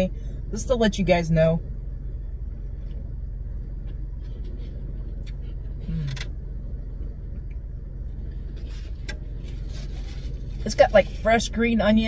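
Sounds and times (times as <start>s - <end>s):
car engine idling inside cabin: 0.0s - 12.0s.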